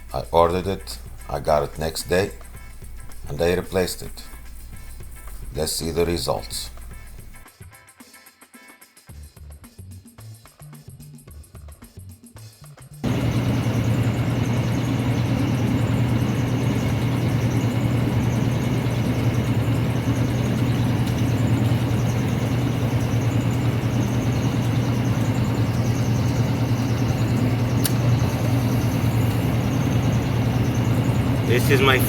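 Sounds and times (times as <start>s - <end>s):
air conditioner humming: 0.0s - 7.4s, 13.0s - 32.0s.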